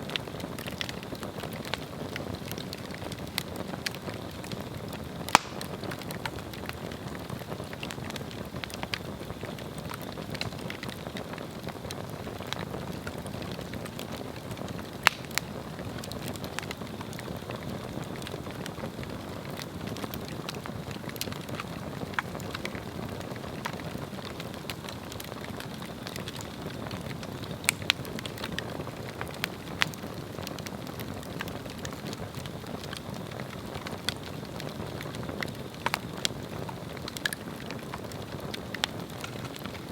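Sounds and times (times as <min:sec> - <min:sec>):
fire crackles and pops: 0:00.0 - 0:39.9
fire flame rushing: 0:00.1 - 0:39.9.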